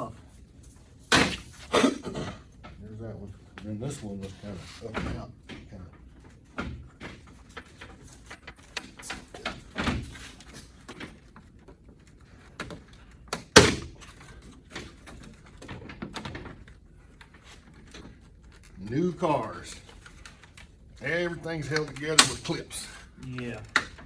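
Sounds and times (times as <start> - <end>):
plastic parts knocking: 1.1 - 24.0.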